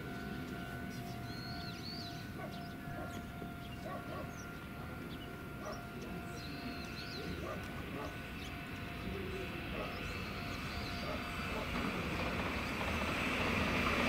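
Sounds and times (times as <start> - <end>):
small birds chirping: 0.3 - 14.0.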